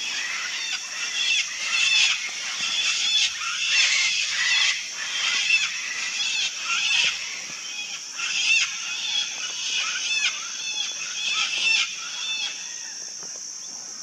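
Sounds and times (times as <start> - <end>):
cockatoos shrieking: 0.0 - 13.0.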